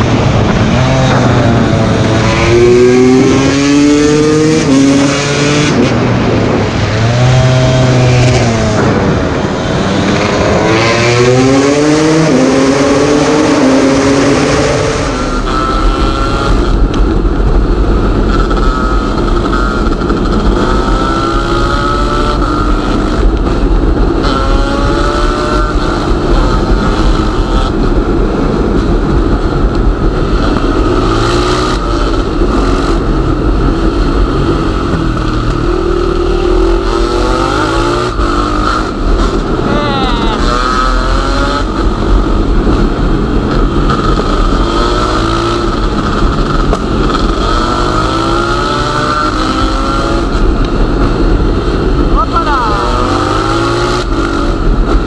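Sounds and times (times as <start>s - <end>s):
dirt bike engine revving: 0.0s - 6.0s, 6.9s - 16.9s, 18.1s - 29.0s, 30.2s - 55.0s
steady low rumble: 0.0s - 55.0s.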